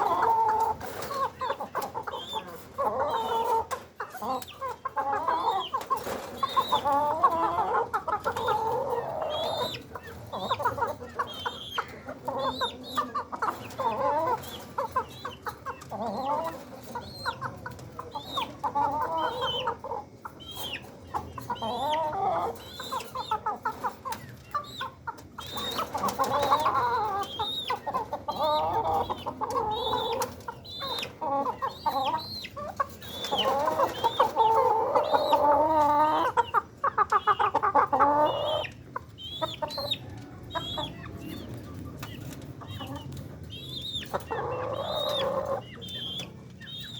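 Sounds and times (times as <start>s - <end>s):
chickens clucking and calling: 0.0s - 46.9s
chickens squawking: 0.0s - 46.9s.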